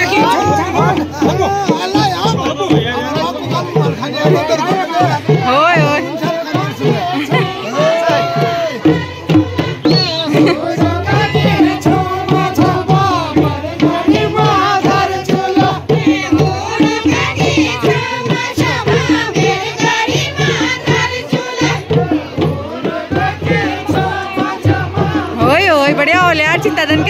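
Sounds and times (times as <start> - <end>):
group singing folk song: 0.0 - 27.0
steady drum beat: 0.0 - 27.0.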